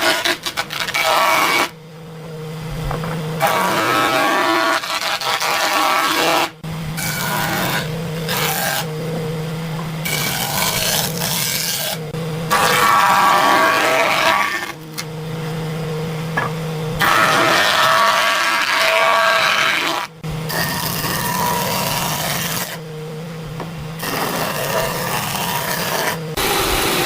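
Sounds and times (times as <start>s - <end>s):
small engine running at high speed: 0.0s - 27.0s.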